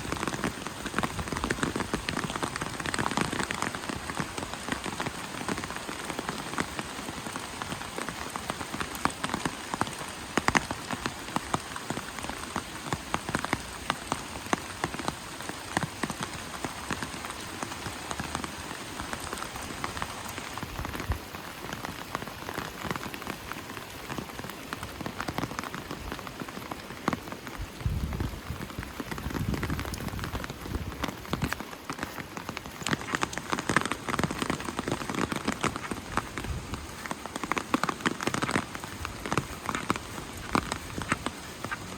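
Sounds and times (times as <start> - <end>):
rain falling: 0.0 - 41.9
raindrops striking close by: 0.0 - 41.9.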